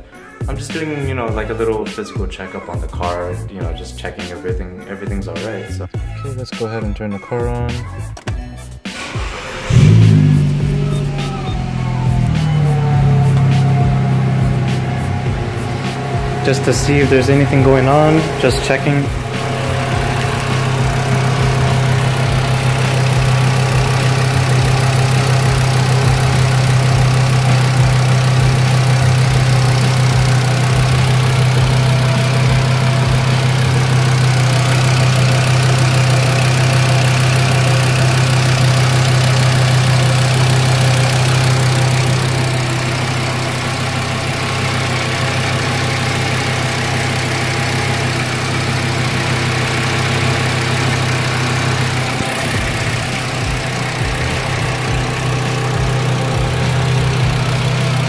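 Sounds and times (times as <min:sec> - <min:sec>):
car engine idling: 0:09.0 - 0:58.0.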